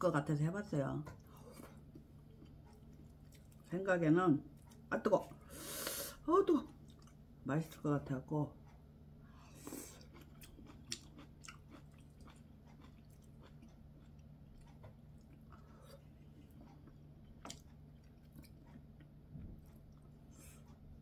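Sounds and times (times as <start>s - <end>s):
steady low hum: 0.0s - 21.0s
close-up chewing and mouth sounds: 1.0s - 7.3s, 9.2s - 21.0s.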